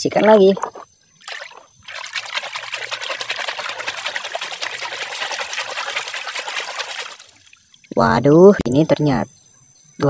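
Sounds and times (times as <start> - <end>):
muddy water splashing in a tub: 0.0 - 8.2.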